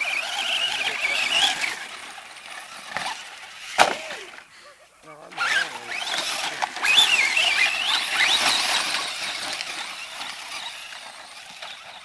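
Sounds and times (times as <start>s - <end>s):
electric motor whining: 0.0s - 4.5s, 5.2s - 12.0s.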